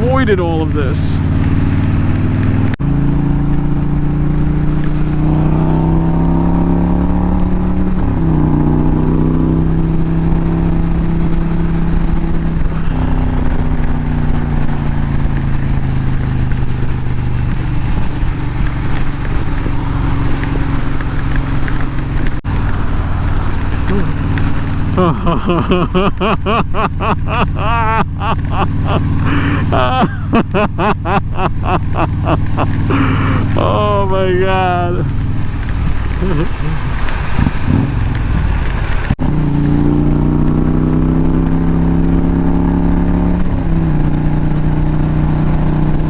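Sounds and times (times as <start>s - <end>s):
gear upshifts: 0.0s - 42.6s
heavy rain: 0.0s - 46.0s
motorcycle engine accelerating: 0.0s - 46.0s.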